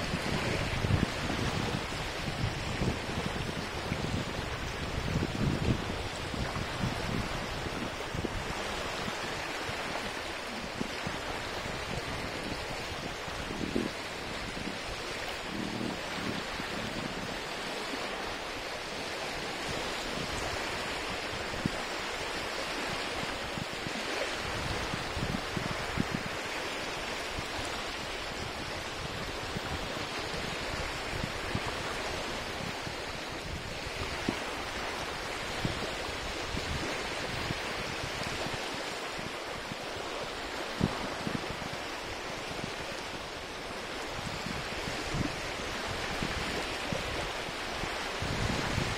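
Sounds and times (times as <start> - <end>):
waves lapping on shore: 0.0 - 48.9.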